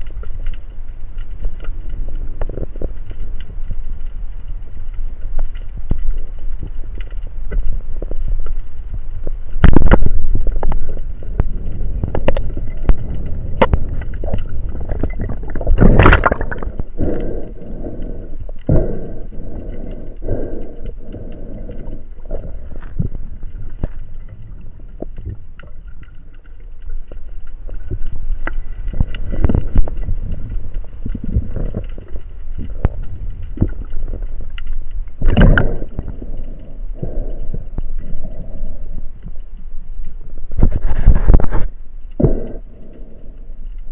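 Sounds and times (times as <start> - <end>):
underwater knocks and clicks: 0.0 - 43.9
underwater rumble of moving water: 0.0 - 43.9.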